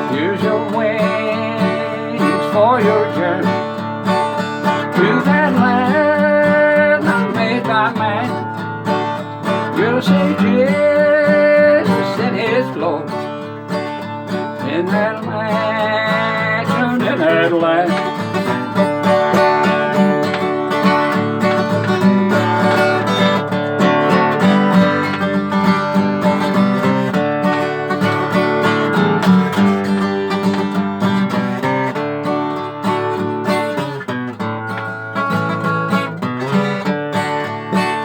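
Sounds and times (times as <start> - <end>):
acoustic guitar picking and strumming: 0.0 - 38.0.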